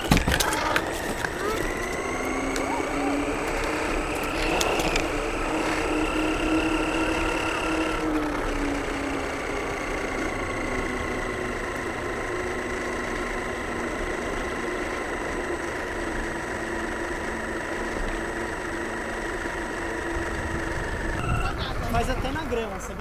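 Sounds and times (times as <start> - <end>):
model car motor drone: 0.0 - 23.0.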